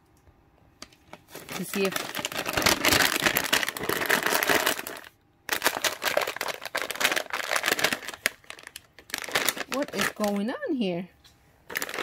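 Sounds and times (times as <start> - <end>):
cat crinkling plastic pouch: 0.8 - 10.7, 11.7 - 12.0.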